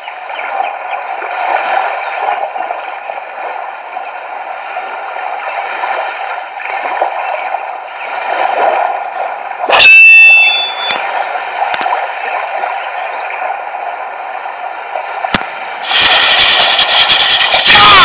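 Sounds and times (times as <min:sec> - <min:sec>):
rushing gurgling water: 0:00.0 - 0:18.0.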